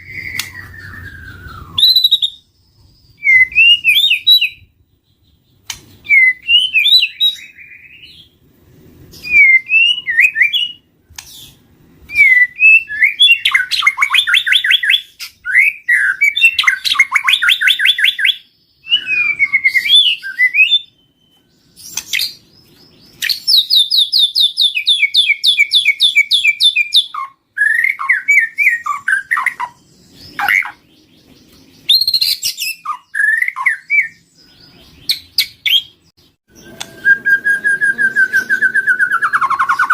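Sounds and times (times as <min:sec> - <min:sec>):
songbird singing loudly: 0:00.0 - 0:08.4, 0:09.1 - 0:39.9.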